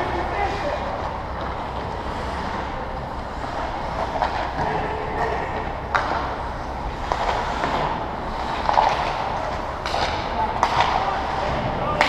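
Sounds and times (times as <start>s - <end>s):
hockey game background noise: 0.0s - 12.0s
hockey sticks striking: 0.0s - 12.0s.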